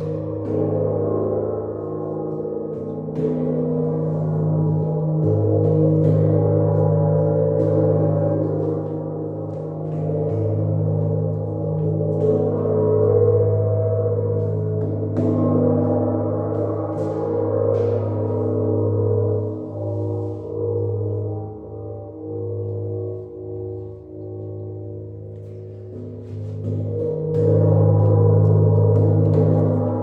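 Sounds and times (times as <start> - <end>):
gong humming with overtones: 0.0 - 30.0.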